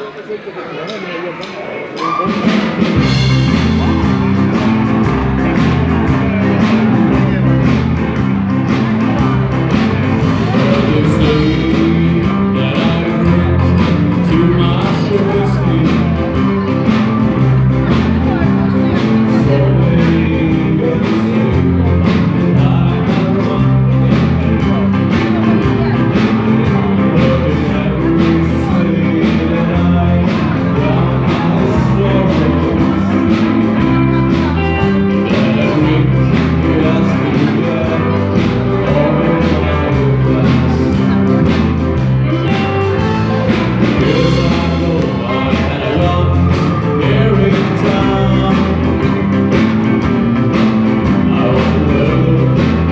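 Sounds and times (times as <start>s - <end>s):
live rock band playing: 2.0s - 52.9s
person singing: 2.0s - 52.9s.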